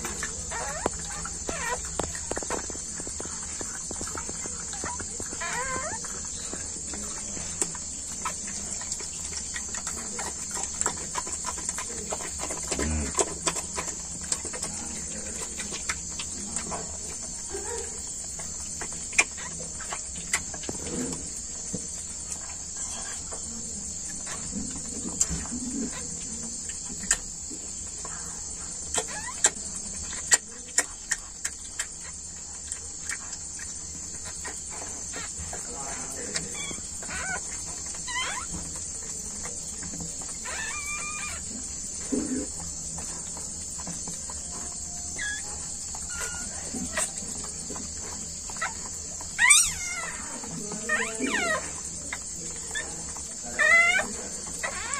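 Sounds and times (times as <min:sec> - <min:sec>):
dog licking puppies: 0:00.0 - 0:54.9
insects chirring: 0:00.0 - 0:54.9.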